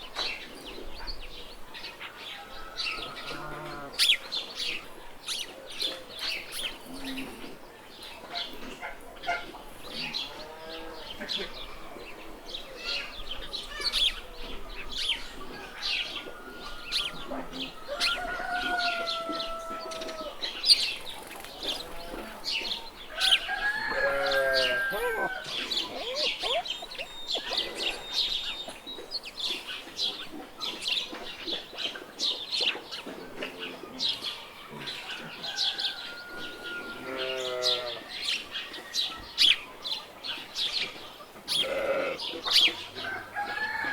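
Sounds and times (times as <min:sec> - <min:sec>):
small birds chirping: 0:00.0 - 0:43.9
farm animals calling: 0:02.4 - 0:05.0, 0:08.2 - 0:14.6, 0:15.2 - 0:40.4, 0:41.0 - 0:43.9.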